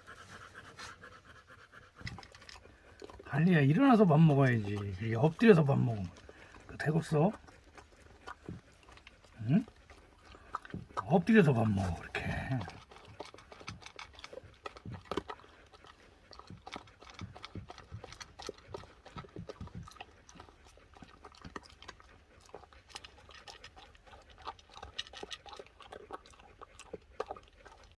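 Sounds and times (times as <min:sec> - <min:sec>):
dog crunching food: 0:00.1 - 0:28.0.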